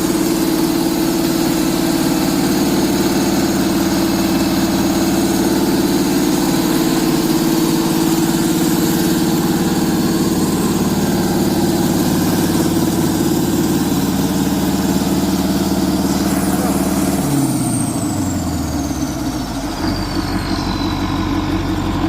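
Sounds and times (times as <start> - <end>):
marine diesel engine droning: 0.0 - 22.0.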